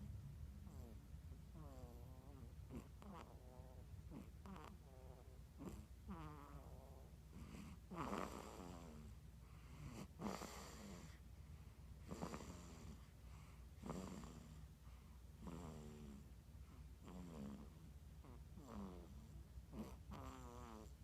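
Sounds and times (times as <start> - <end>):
baby snoring: 0.6 - 11.2, 12.0 - 14.6, 15.4 - 16.3, 17.0 - 21.0.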